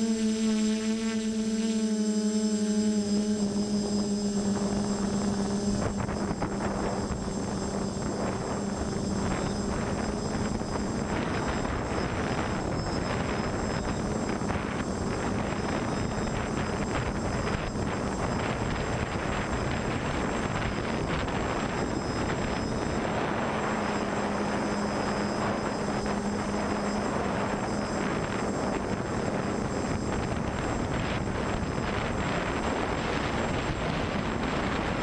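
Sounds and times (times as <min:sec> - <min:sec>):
drone motor hum: 0:00.0 - 0:35.0
propeller air rush: 0:00.0 - 0:35.0.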